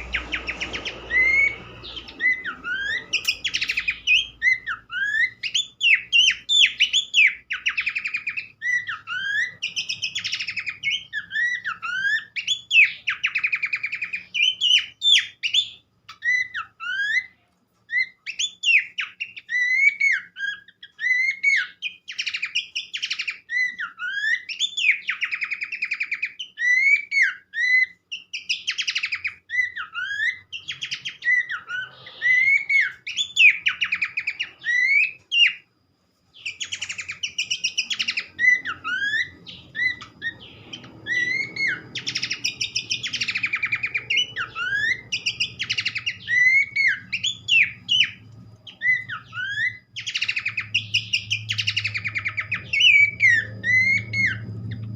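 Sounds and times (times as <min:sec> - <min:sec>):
bird whistling and chirping: 0:00.0 - 0:35.7, 0:36.3 - 0:54.9.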